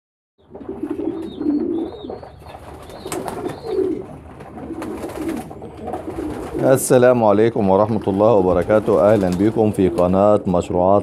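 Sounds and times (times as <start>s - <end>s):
pigeons cooing: 0.4s - 11.0s.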